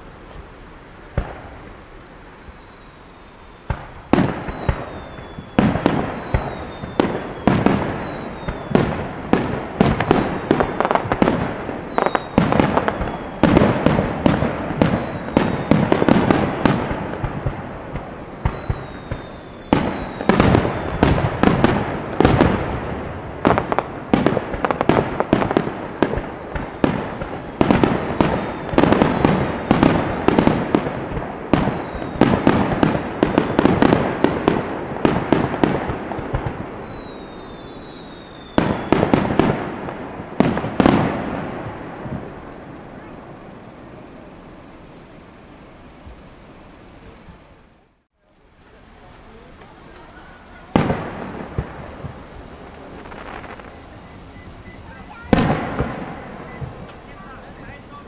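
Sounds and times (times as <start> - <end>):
loud firework booms: 0.0 - 48.1, 49.3 - 58.0
falling firework whistles: 0.0 - 58.0
firework bursts and crackles: 0.0 - 58.0.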